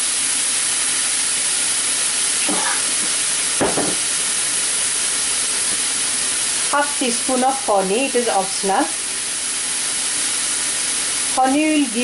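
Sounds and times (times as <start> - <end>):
sauce sizzling in a skillet: 0.0 - 12.0.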